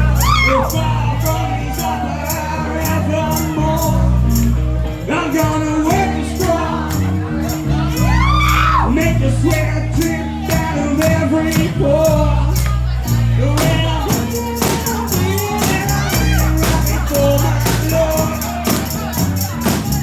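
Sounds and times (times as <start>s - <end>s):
bass line: 0.0s - 20.0s
live band playing: 0.0s - 20.0s
percussion beat: 0.0s - 20.0s
person singing: 0.0s - 20.0s.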